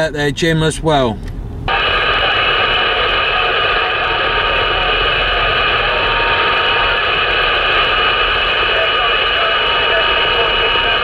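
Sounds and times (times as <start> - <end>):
radio static hiss: 1.7 - 11.0.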